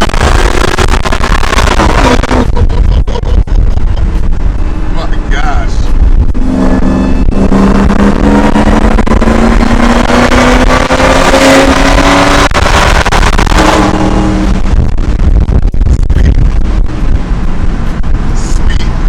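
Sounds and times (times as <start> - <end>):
truck engine accelerating: 0.0 - 19.0.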